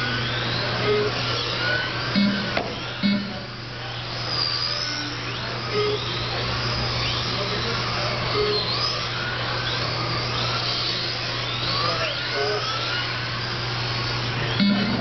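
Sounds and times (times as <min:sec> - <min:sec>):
electric rc cars whining: 0:00.0 - 0:15.0
steady low hum: 0:00.0 - 0:15.0.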